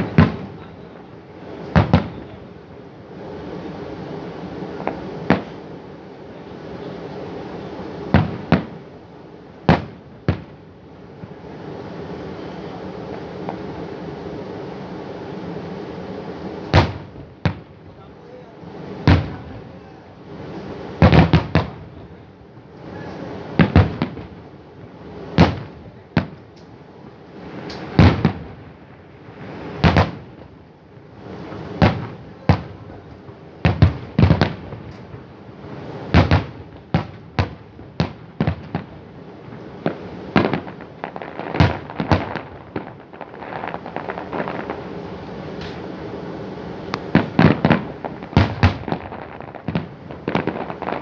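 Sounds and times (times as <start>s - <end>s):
fireworks booming: 0.0s - 51.0s.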